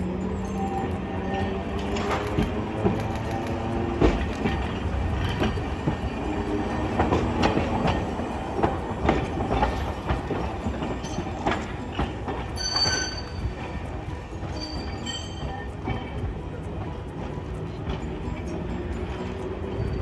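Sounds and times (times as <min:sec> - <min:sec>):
streetcar running rumble: 0:00.0 - 0:20.0
wheels clacking over rail joints: 0:00.2 - 0:20.0.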